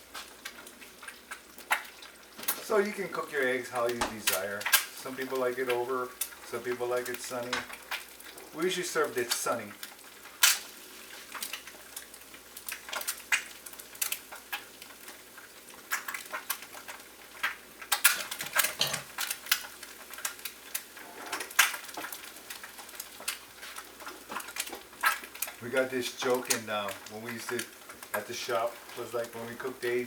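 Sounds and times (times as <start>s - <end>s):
eggs frying in oil: 0.0s - 30.0s
spitting oil crackles and pops: 0.0s - 30.0s.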